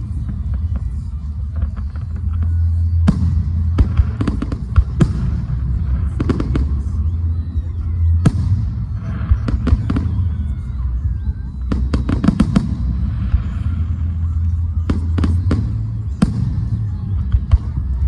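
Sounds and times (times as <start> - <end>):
fireworks cracking and banging: 0.0 - 18.0.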